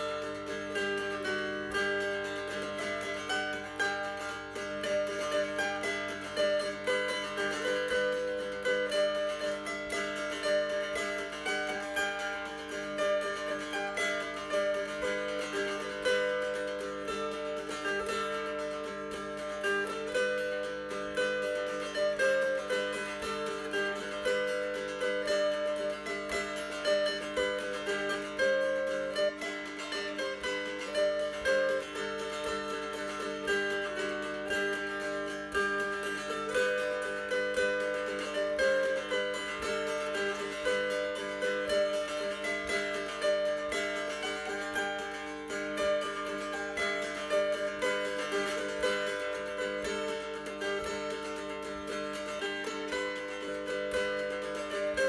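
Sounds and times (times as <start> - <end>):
mountain dulcimer strummed melody: 0.0 - 55.0.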